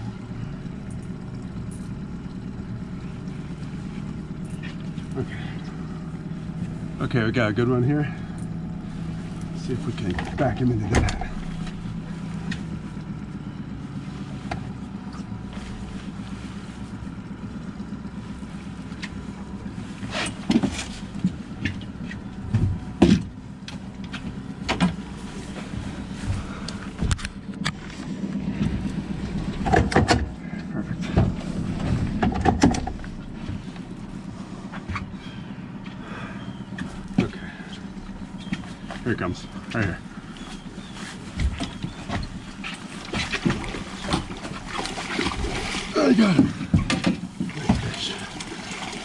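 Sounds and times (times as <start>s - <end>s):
knocks and clatters in boat: 0.0s - 49.0s
outboard motor humming: 0.0s - 49.0s.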